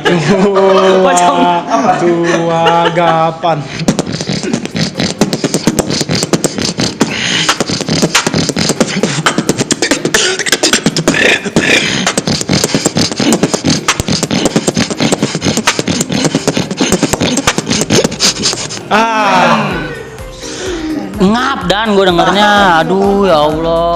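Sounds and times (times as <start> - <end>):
person beatboxing: 3.7 - 23.9.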